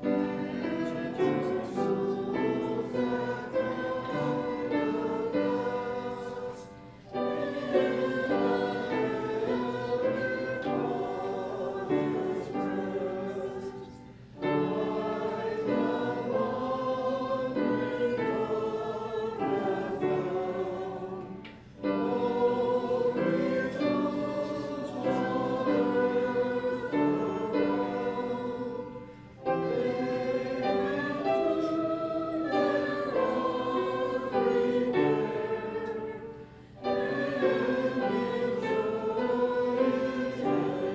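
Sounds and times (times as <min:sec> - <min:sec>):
congregation singing a hymn: 0:00.0 - 0:40.9.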